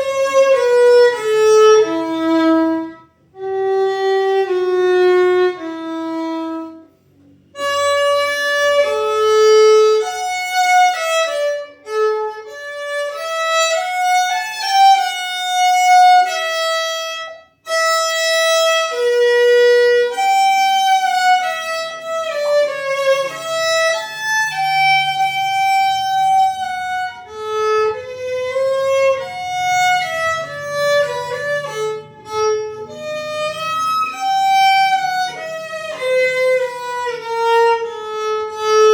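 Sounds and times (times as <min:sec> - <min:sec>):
bowed violin melody: 0:00.0 - 0:38.9.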